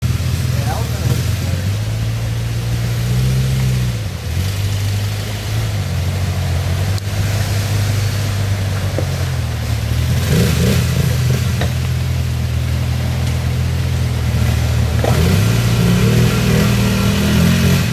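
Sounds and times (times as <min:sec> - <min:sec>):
engine running and revving: 0:00.0 - 0:17.9.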